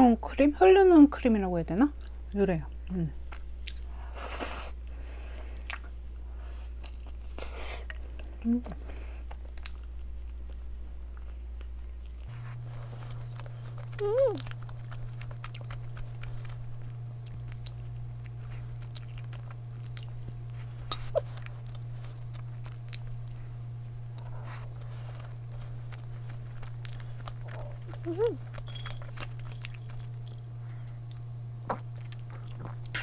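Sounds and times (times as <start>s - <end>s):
steady low hum: 0.0s - 33.0s
chewing: 3.3s - 3.9s, 5.4s - 33.0s.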